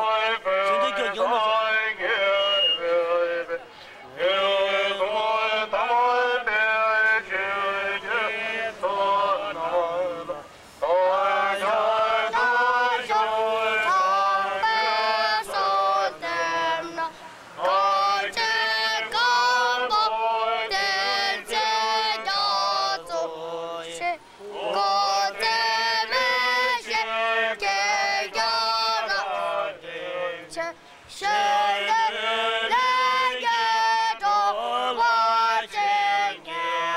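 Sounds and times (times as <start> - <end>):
crowd shouting slogans: 0.0 - 36.9.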